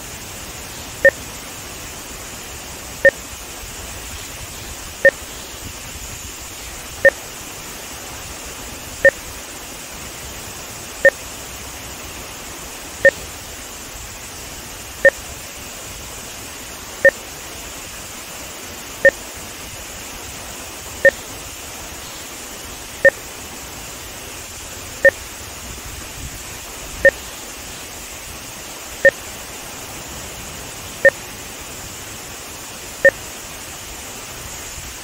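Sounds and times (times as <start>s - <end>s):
water rushing through spillway: 0.0s - 35.0s.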